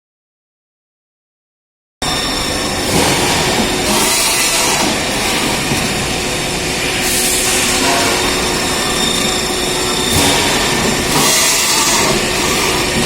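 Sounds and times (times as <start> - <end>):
loud industrial machine noise: 2.0 - 13.0
hissing bursts: 2.4 - 13.0.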